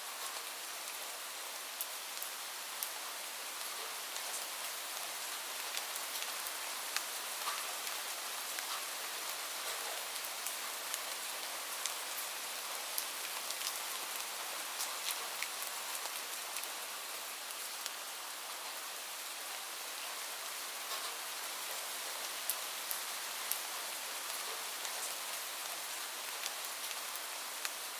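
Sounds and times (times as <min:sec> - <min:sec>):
light rain falling: 0:00.0 - 0:27.9
raindrops ticking on a surface: 0:00.1 - 0:27.9.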